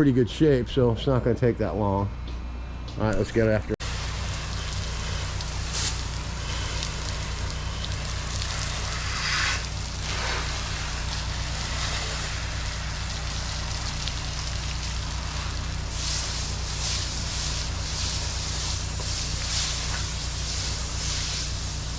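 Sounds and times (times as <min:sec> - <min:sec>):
pressure washer engine hum: 0:03.8 - 0:21.9
water spray hissing: 0:03.8 - 0:21.9.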